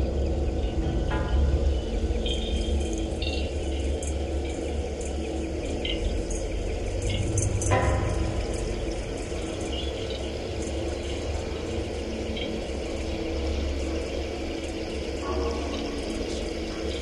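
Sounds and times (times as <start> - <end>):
low synthesizer drone: 0.0 - 17.0.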